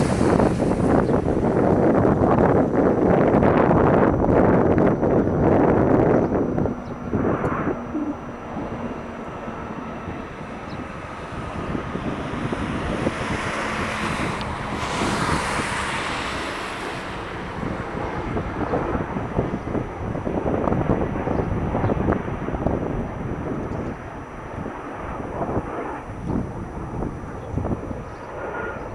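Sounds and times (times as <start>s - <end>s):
jets flying over: 0.0s - 28.9s
wind buffeting microphone: 0.0s - 28.9s.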